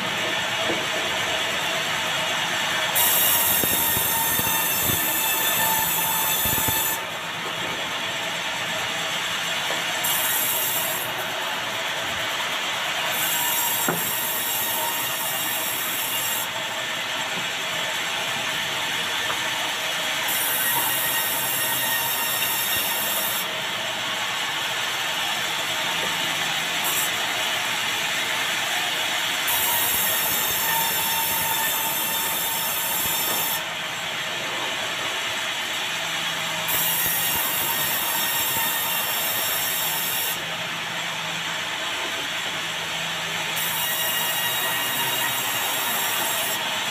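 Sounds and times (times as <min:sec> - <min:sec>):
band saw cutting log: 0:00.0 - 0:07.2, 0:07.8 - 0:35.8, 0:36.4 - 0:40.5, 0:43.5 - 0:46.9.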